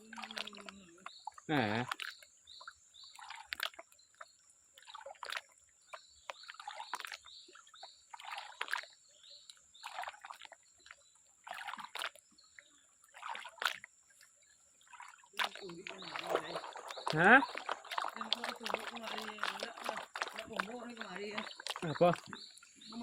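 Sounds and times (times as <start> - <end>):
water sloshing in a pan: 0.0 - 23.0.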